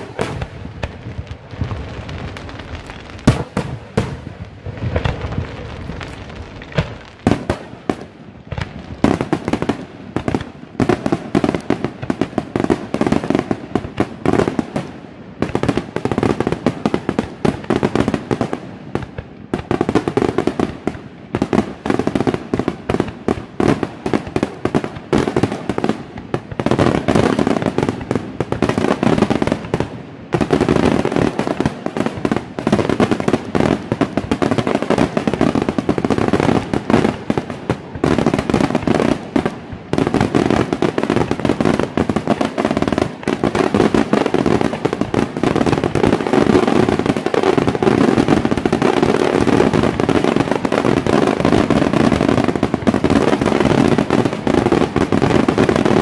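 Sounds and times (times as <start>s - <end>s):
fireworks bangs and crackle: 0.0s - 56.0s.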